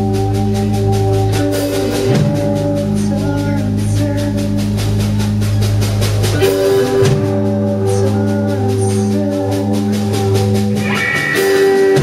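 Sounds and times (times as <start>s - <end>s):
drum kit beat: 0.0s - 12.0s
electric guitar chords: 0.0s - 12.0s.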